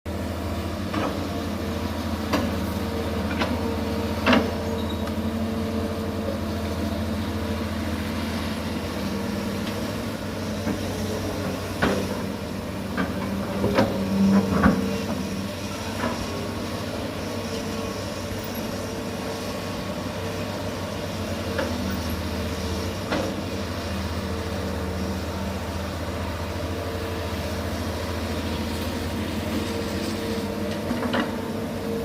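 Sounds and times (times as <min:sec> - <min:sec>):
excavator diesel engine running: 0:00.1 - 0:32.0.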